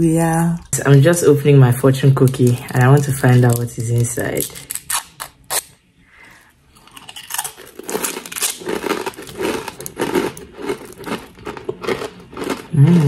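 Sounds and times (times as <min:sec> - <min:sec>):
fortune cookie crunching: 0:00.6 - 0:13.0.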